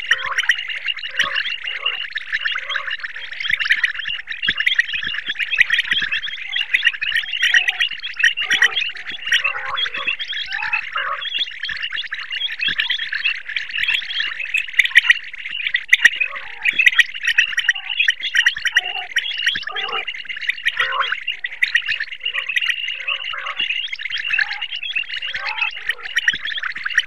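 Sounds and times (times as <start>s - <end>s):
short low quail calls: 0.0s - 13.0s, 13.7s - 27.0s
quail rapid chirping: 0.0s - 27.0s.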